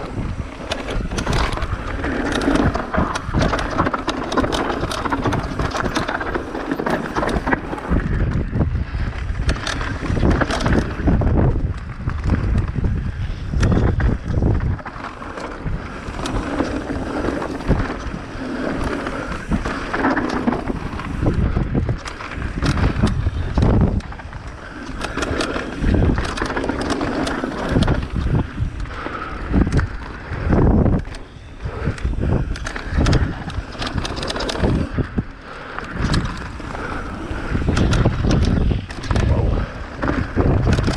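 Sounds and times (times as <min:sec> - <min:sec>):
bike knocks and rattles: 0:00.0 - 0:40.9
tyres rumbling on dirt: 0:00.0 - 0:40.9
wind buffeting microphone: 0:00.0 - 0:40.9.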